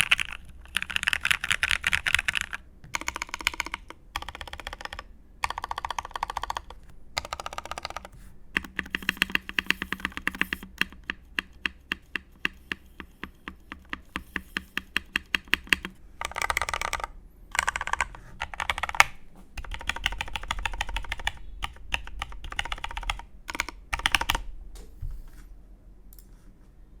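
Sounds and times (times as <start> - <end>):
mechanical keyboard typing: 0.0 - 24.5.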